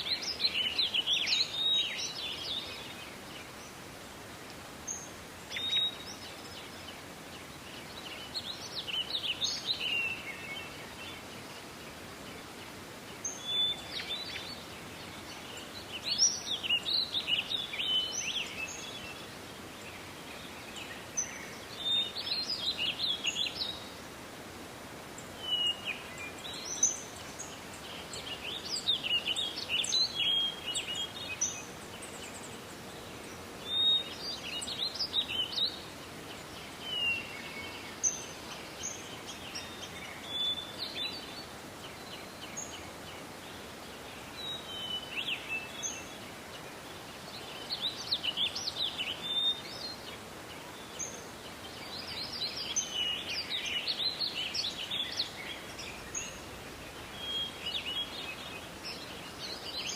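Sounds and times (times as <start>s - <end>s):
forest background hiss: 0.0s - 59.9s
songbird singing: 0.0s - 59.9s.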